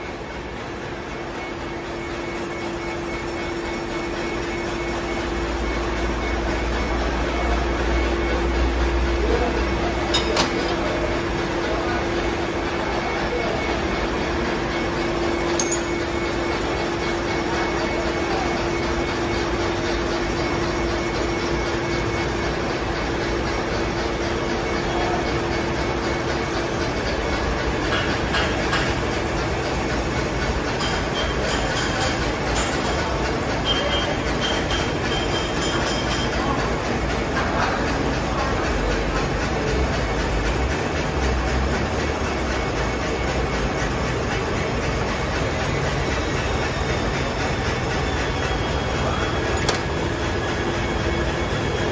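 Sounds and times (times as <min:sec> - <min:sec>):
milling machine humming: 0:00.0 - 0:51.9.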